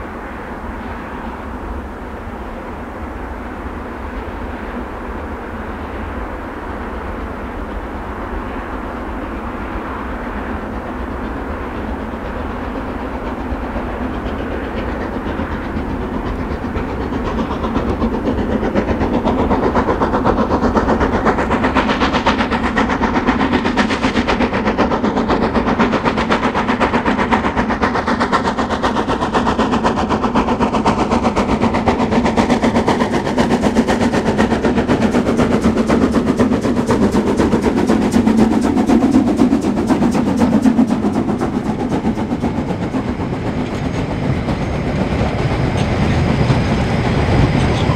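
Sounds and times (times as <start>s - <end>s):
steam train passing: 0.0s - 47.9s.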